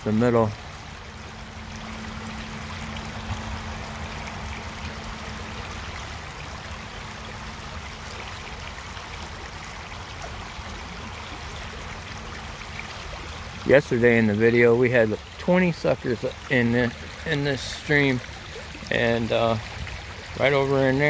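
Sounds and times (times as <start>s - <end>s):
creek water flowing over rocks: 0.0s - 21.0s.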